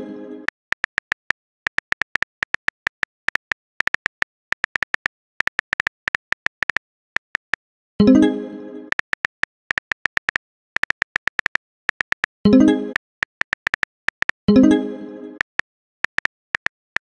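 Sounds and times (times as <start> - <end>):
phone keyboard typing clicks: 0.5 - 7.6, 8.9 - 14.5, 15.4 - 17.0.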